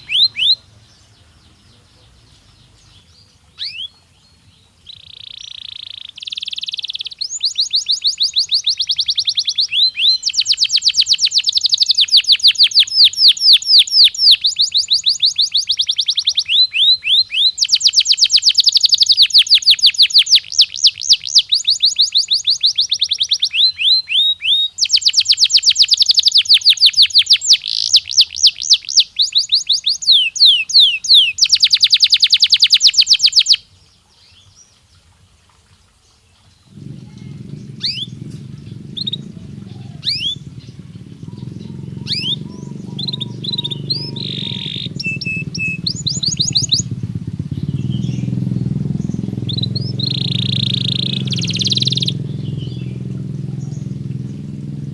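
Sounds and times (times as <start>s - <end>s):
canary singing trills: 0.0s - 34.6s, 36.6s - 54.9s.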